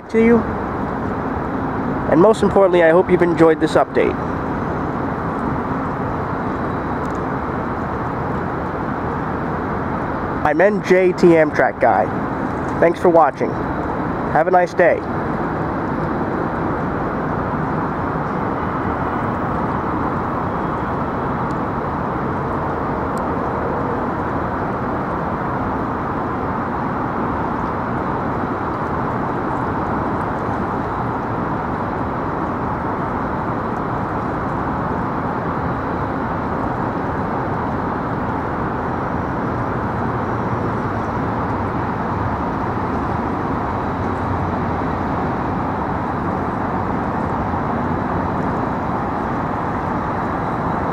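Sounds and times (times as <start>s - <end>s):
steady vehicle noise: 0.0s - 50.9s.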